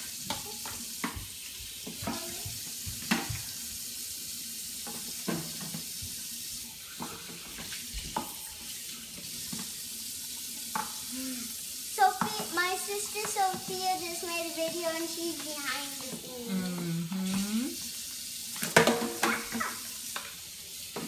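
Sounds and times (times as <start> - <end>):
faucet running into a metal sink: 0.0 - 16.4, 17.3 - 21.0.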